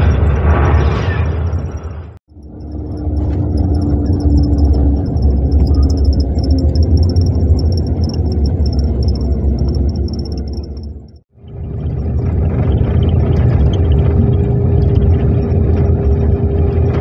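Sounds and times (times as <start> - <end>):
coach engine and tyres rumbling: 1.4 - 17.0.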